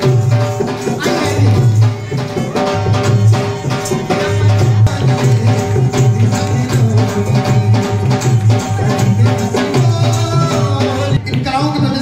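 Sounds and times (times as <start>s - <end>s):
hand drum beat: 0.0s - 12.0s.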